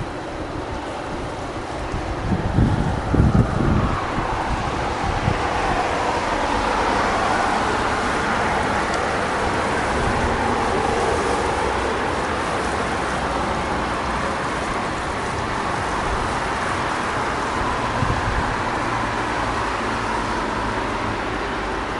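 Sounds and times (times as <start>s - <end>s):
distant road traffic: 0.0s - 21.9s
wind: 0.0s - 21.9s.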